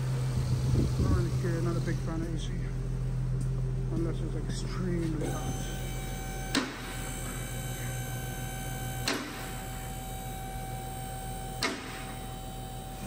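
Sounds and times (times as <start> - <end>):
car engine low hum: 0.0 - 13.0
high-pitched mechanical whine: 0.0 - 13.0.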